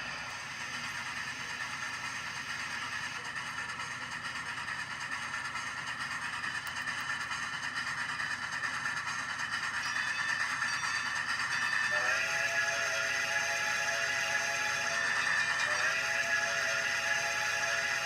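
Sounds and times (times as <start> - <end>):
passing train on rails: 0.0 - 18.0.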